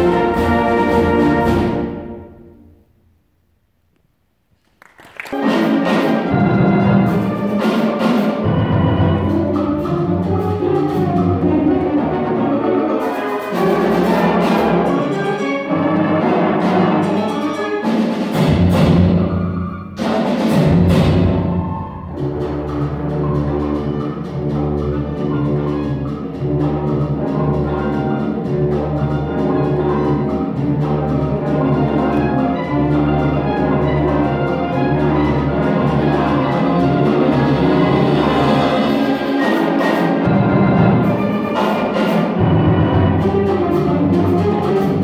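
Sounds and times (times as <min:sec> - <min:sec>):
concert band playing: 0:00.0 - 0:02.6, 0:04.9 - 0:45.0.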